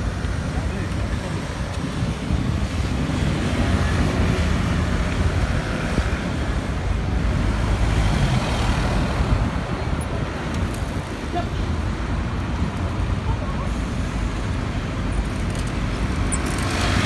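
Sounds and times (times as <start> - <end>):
engine rumble and tyre noise: 0.0 - 17.0
cars passing close by: 2.4 - 13.2, 13.8 - 17.0.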